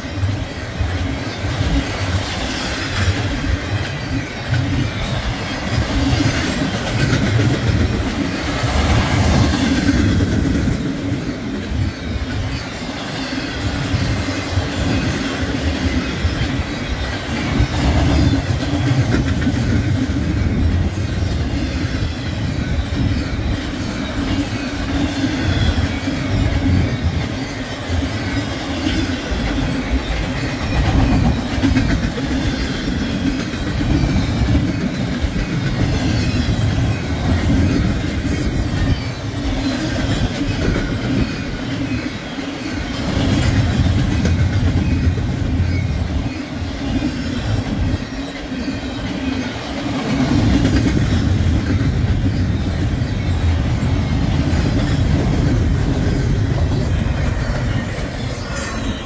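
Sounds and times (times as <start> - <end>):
freight train rumbling past: 0.0 - 59.0
wheels clacking over rails: 0.0 - 59.0.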